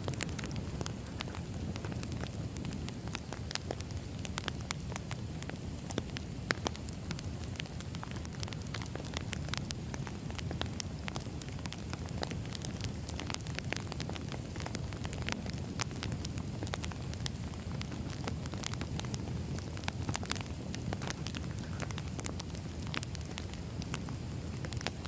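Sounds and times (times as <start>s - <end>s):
firewood crackling and popping: 0.0s - 25.0s
low rumble of fire: 0.0s - 25.0s.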